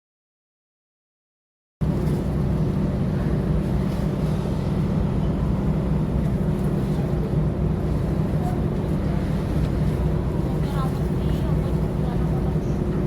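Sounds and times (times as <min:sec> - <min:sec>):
low drone of ship engines: 0:01.8 - 0:13.0.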